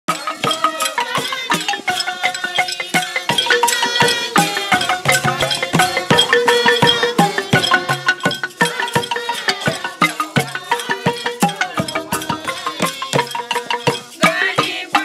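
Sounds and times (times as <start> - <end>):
wooden xylophone played with mallets: 0.1 - 15.0
hand drums thudding: 0.4 - 15.0.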